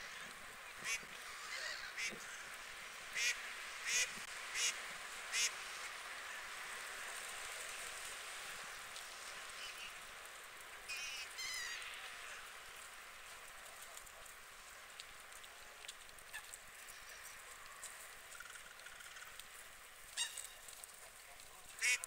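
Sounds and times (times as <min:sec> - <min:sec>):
water birds calling: 0:00.0 - 0:06.9, 0:08.4 - 0:22.0
steady background hiss: 0:00.0 - 0:22.0.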